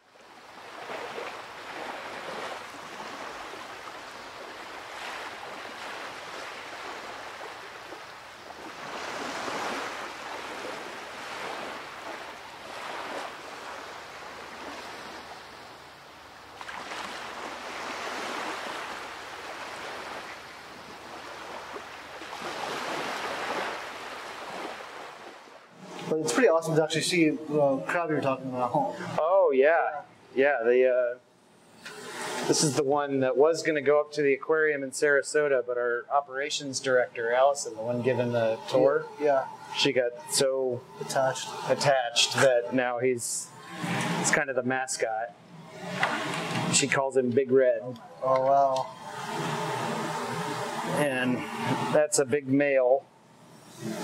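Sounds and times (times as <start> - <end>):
ocean waves washing in: 0.0 - 30.0, 31.6 - 54.0.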